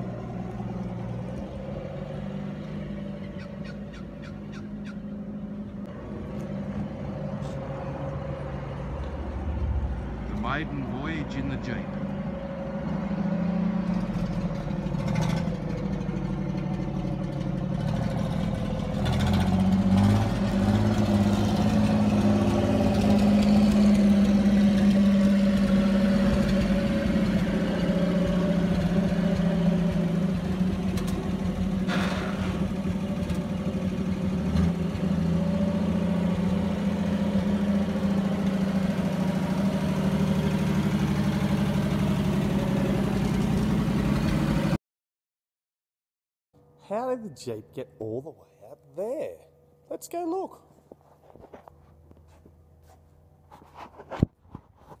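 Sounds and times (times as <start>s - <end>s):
truck engine running: 0.0s - 44.8s.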